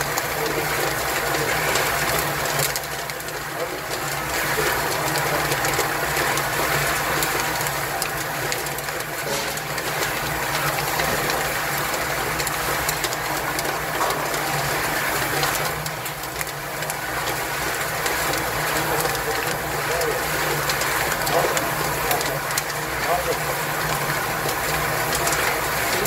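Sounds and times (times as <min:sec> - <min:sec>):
nuts rattling in rotating drum: 0:00.0 - 0:26.0.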